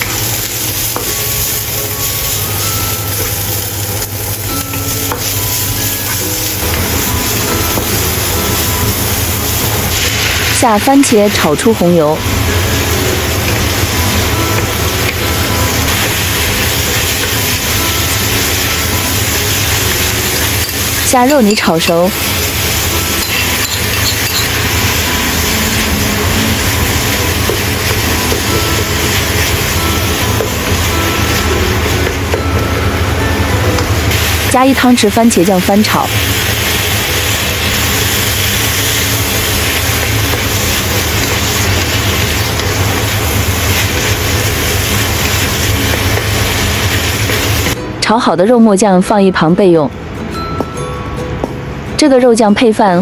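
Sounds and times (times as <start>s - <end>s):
onion sizzling in hot oil: 0.0s - 47.8s.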